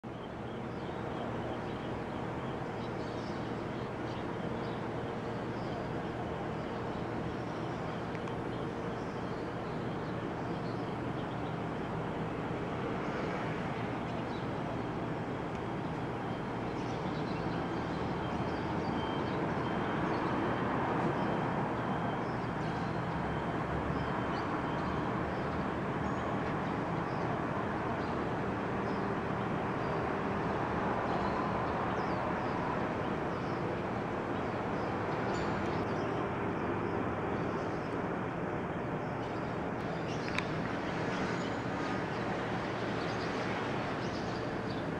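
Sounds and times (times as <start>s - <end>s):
distant city traffic hum: 0.0s - 44.9s.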